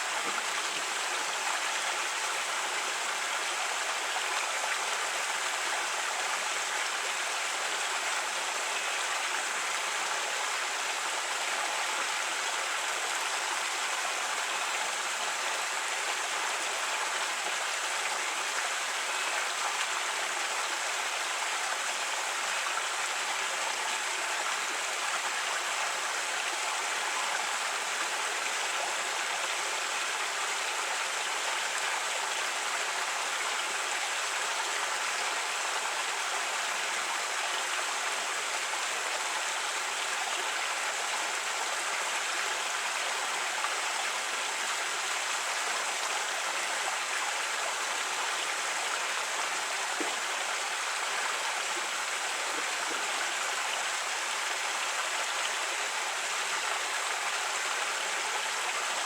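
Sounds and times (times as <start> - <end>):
creek running over rocks: 0.0 - 59.0.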